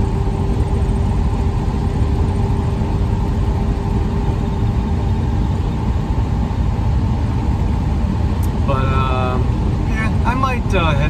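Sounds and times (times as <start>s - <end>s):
road and engine rumble in van: 0.0s - 11.0s.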